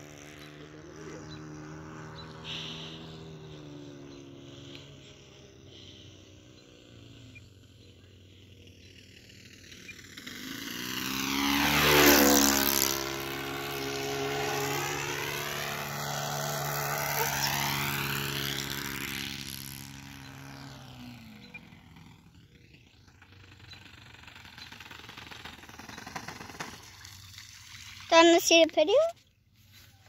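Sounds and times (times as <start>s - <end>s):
model plane engine flying past: 0.0s - 30.0s.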